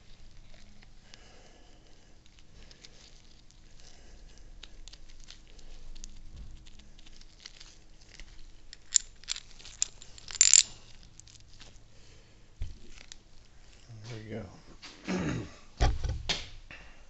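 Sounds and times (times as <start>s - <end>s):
gloved hands rustling: 0.0s - 14.5s.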